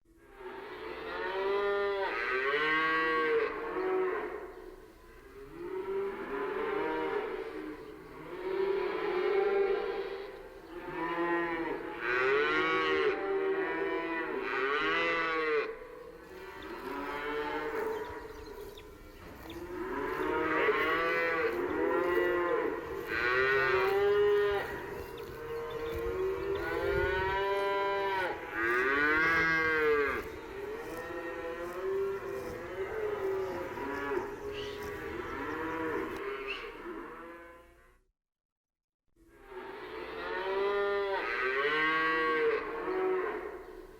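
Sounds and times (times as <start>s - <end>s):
cattle mooing: 0.5s - 4.5s, 5.5s - 37.8s, 39.7s - 43.7s.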